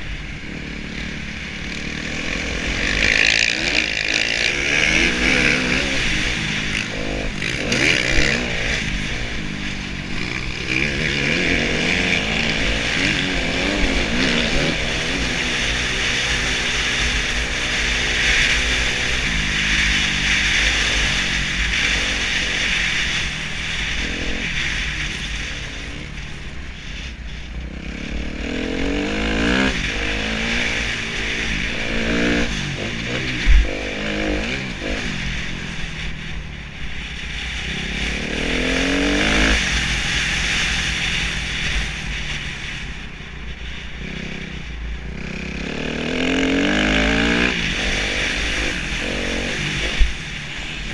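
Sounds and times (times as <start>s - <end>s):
motocross engine revving: 0.0s - 26.4s, 27.6s - 35.9s, 36.9s - 42.0s, 44.0s - 50.9s.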